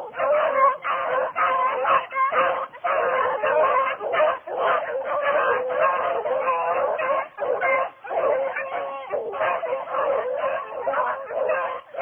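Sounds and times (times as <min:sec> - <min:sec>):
dogs baying and howling: 0:00.0 - 0:12.0.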